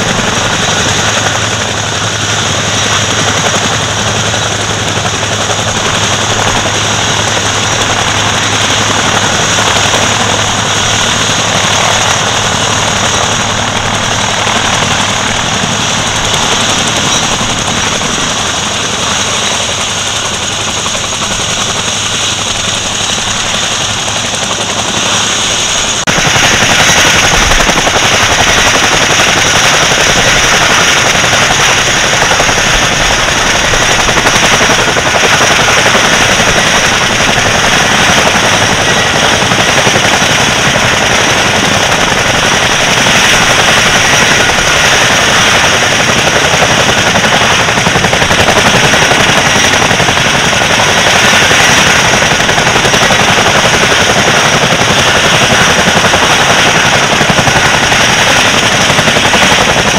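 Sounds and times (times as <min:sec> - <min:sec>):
radial aircraft engines droning: 0:00.0 - 0:59.9.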